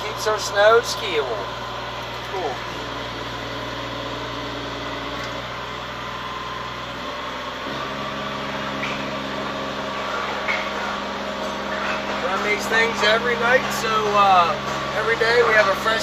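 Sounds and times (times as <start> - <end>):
snowcat engine running: 0.0 - 16.0.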